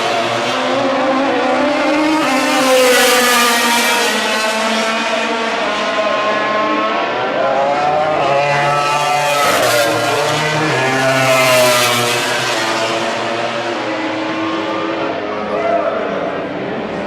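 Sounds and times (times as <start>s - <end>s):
racing motorcycle engines revving: 0.0s - 17.0s.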